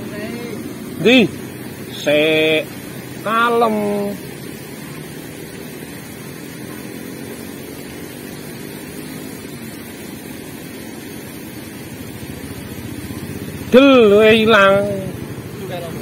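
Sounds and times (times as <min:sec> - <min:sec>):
faint hum: 0:00.0 - 0:16.0
low rumbling background noise: 0:00.0 - 0:16.0.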